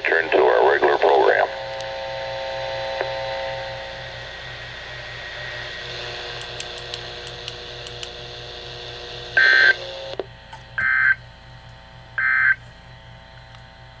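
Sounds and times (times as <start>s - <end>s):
steady radio hum: 0.0s - 11.2s.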